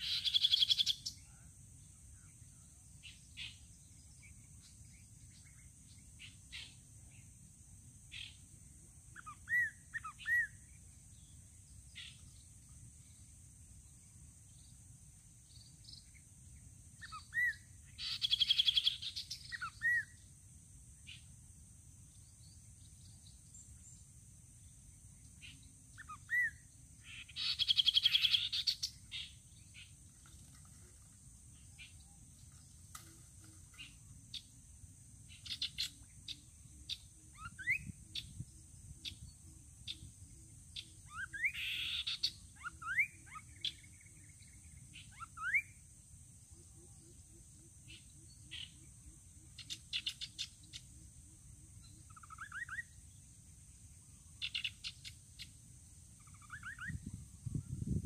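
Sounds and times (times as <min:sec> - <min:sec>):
birds calling and chattering: 0:00.0 - 0:07.4, 0:08.1 - 0:13.4, 0:14.2 - 0:20.3, 0:22.0 - 0:34.6, 0:35.2 - 0:45.9, 0:46.6 - 0:58.0.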